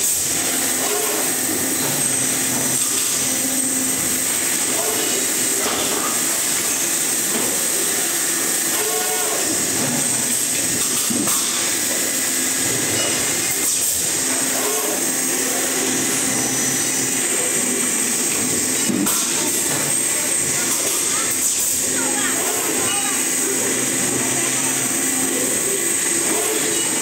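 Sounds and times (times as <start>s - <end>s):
machinery hissing: 0.0s - 27.0s.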